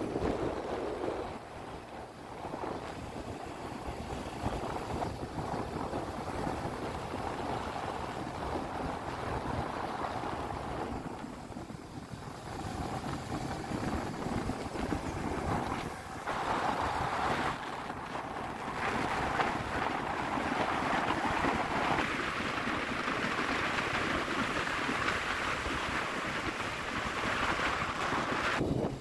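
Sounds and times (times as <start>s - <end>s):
vehicle rumbling on road: 0.0s - 29.0s
wind buffeting microphone: 0.0s - 29.0s.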